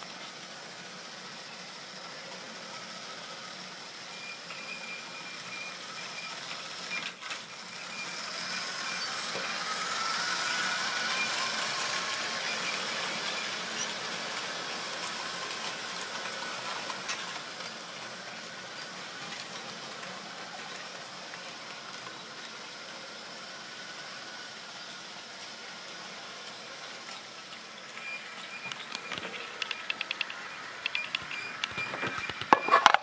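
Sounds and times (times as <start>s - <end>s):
model train motor whirring: 0.0s - 28.0s.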